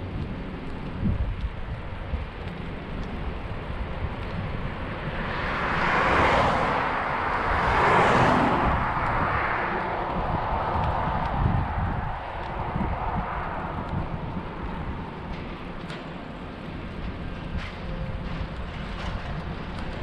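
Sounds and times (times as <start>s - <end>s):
vehicles passing close by: 0.0s - 20.0s
wind rumble on microphone: 0.0s - 20.0s.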